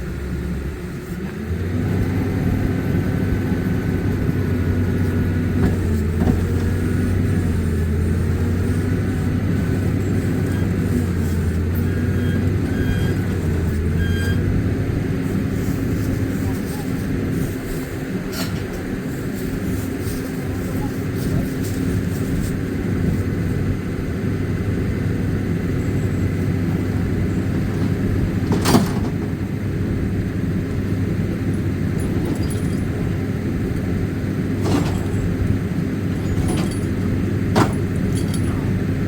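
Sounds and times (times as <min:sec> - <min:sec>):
vehicle engine humming: 0:00.0 - 0:39.0.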